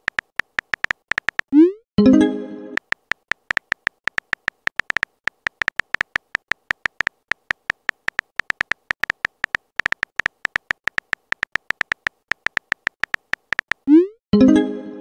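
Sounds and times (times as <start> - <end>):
phone keyboard key clicks: 0.0 - 1.6, 2.8 - 13.9.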